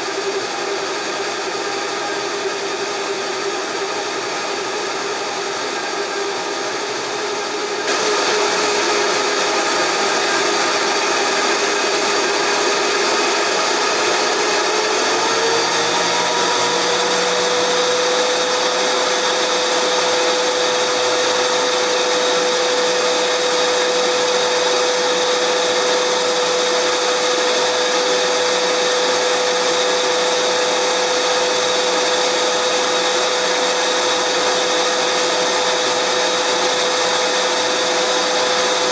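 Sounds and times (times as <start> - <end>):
electric blender motor whining: 0.0 - 38.9.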